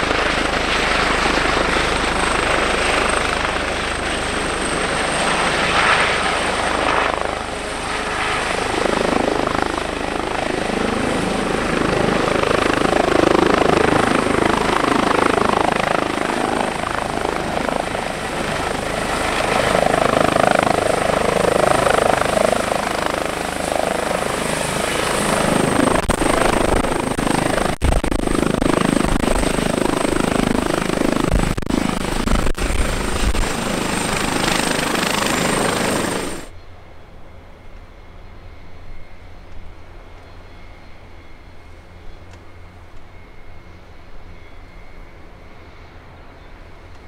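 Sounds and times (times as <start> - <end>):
distant turboprop aircraft drone: 0.0 - 47.0
helicopter rotor and turbine whine: 0.0 - 47.0.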